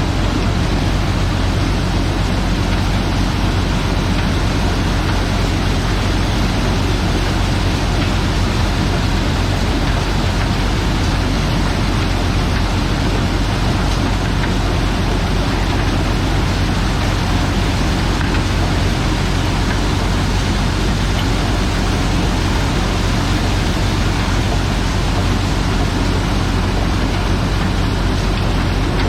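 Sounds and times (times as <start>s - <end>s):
corn sheller machine running: 0.0s - 29.0s.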